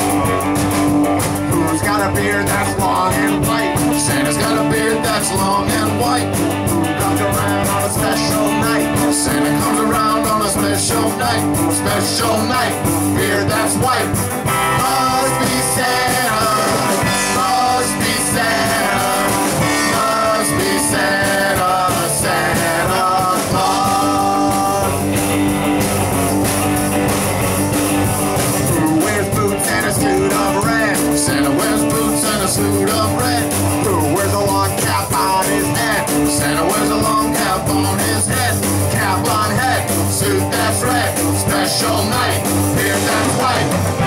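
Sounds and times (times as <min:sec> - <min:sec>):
lead electric guitar: 0:00.0 - 0:44.0
rock and roll band playing: 0:00.0 - 0:44.0.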